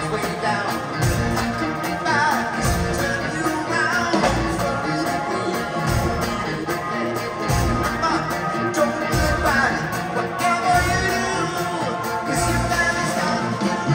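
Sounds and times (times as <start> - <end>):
bass guitar: 0.0 - 13.9
drums: 0.0 - 13.9
electric guitar: 0.0 - 13.9
keyboards: 0.0 - 13.9.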